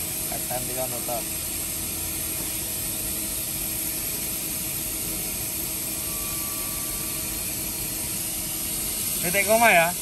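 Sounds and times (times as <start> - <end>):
running machinery drone: 0.0 - 10.0.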